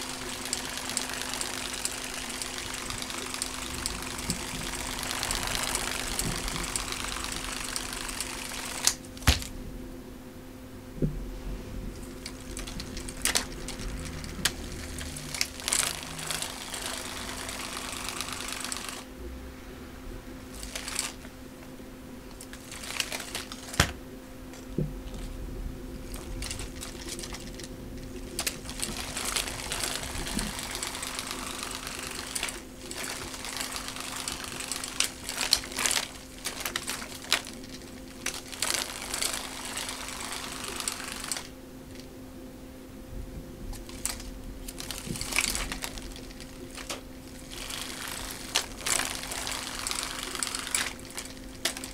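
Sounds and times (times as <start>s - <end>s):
plastic cat toy clicking and rattling: 0.0s - 9.5s, 12.0s - 19.1s, 20.6s - 21.3s, 22.3s - 25.3s, 26.0s - 42.1s, 43.8s - 51.9s
steady electric hum: 0.0s - 51.9s.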